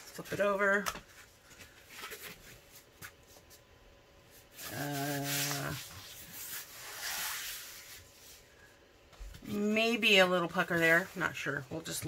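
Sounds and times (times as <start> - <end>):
low steady hum: 0.0 - 12.0
canvas and paper rustling: 0.1 - 12.0.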